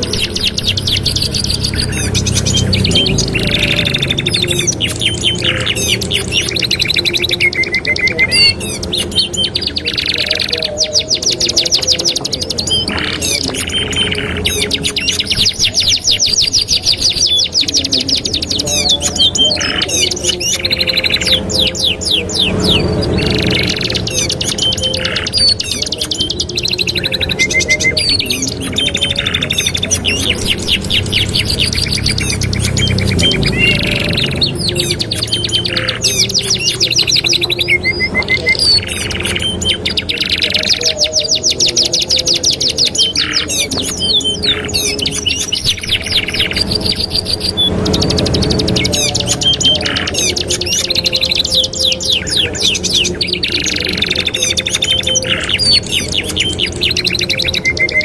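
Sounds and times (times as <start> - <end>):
canaries singing trills: 0.0 - 58.0.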